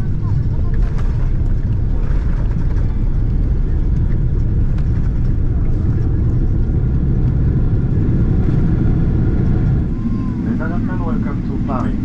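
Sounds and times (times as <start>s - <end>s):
aircraft cabin low rumble: 0.0s - 12.0s
jet engine and wheel noise: 0.0s - 12.0s.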